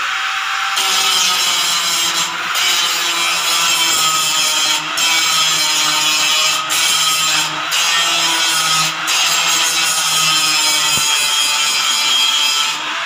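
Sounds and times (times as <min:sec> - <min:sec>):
angle grinder grinding metal: 0:00.0 - 0:13.0.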